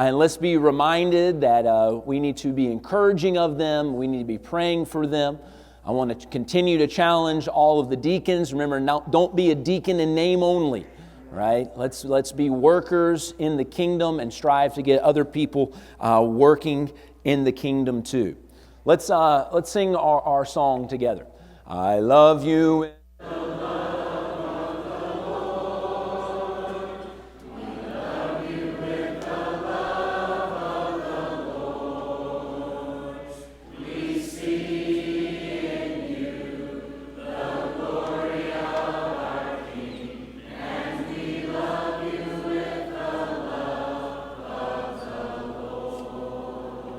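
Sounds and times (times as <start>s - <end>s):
congregation singing a hymn: 0.0s - 16.9s, 21.8s - 46.9s.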